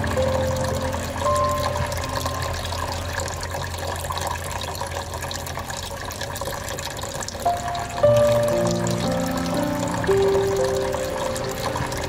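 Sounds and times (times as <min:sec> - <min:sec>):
water trickling into basin: 0:00.0 - 0:12.0.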